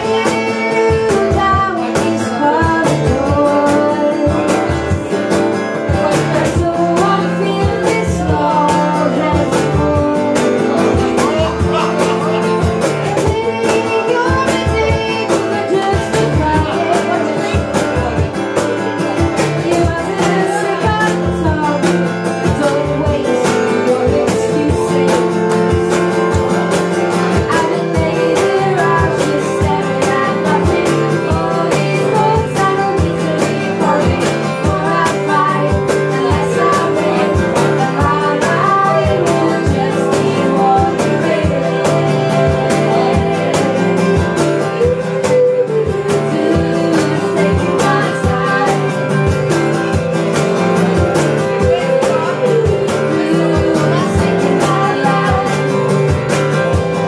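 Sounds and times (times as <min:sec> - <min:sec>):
acoustic guitar strumming: 0:00.0 - 0:57.0
woman singing: 0:00.0 - 0:57.0.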